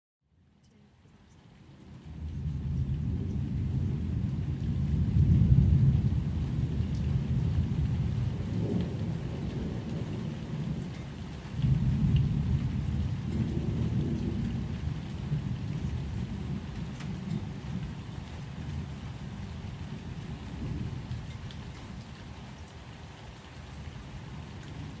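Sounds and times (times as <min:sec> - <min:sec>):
rain: 0:00.2 - 0:25.0
faint raindrop ticks: 0:00.5 - 0:25.0
low rolling thunder: 0:01.9 - 0:25.0.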